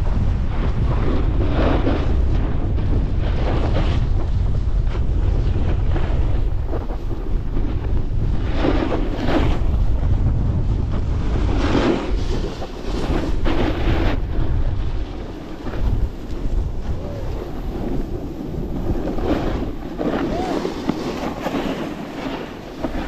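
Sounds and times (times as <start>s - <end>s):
skis scraping on packed snow: 0.0s - 23.0s
wind buffeting microphone: 0.0s - 23.0s.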